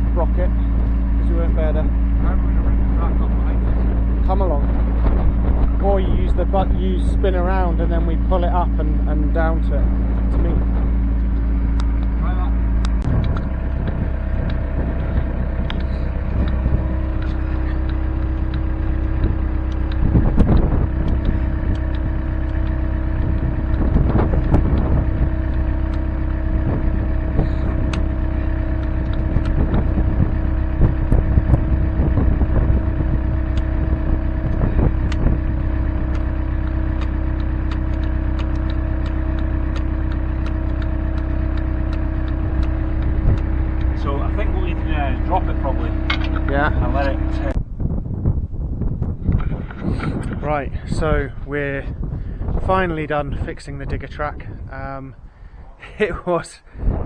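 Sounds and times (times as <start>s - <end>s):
excavator diesel engine running: 0.0s - 47.6s, 49.0s - 57.0s.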